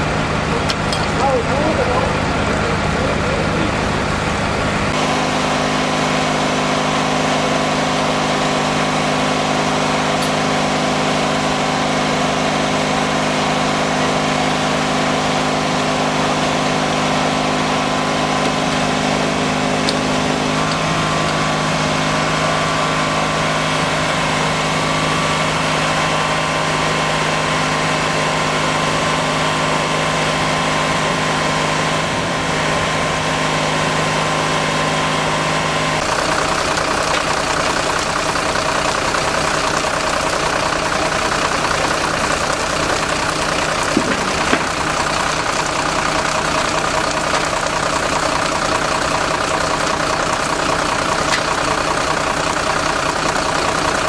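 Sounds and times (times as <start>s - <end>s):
fire engine motor humming: 0.0s - 54.0s.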